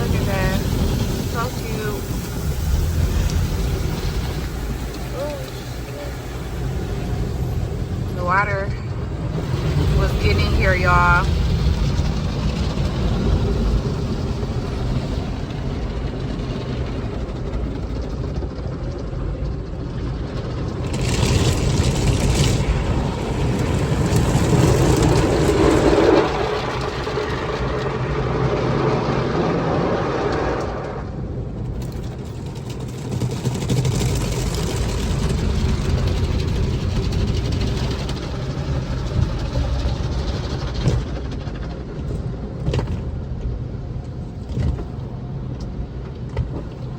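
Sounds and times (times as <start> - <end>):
water spraying against car: 0.0 - 17.5, 20.5 - 46.9
car wash low rumble: 0.0 - 46.9.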